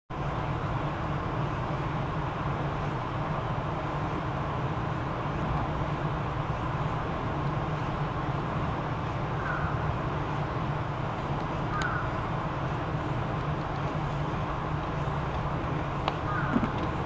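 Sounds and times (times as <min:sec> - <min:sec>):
distant road traffic: 0:00.1 - 0:17.0.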